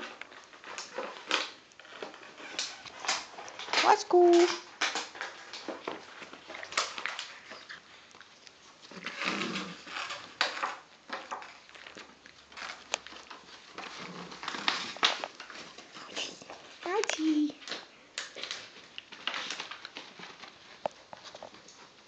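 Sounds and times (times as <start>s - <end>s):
puppies rustling on bedding: 0.0s - 22.0s.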